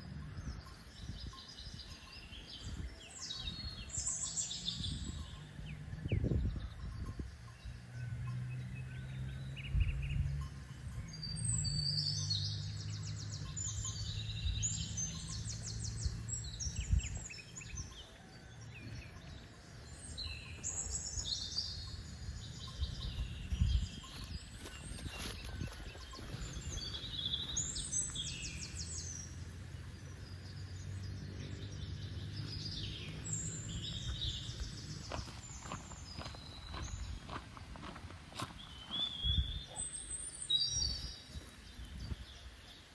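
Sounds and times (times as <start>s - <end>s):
wild birds trilling and chirping: 0.0s - 42.9s.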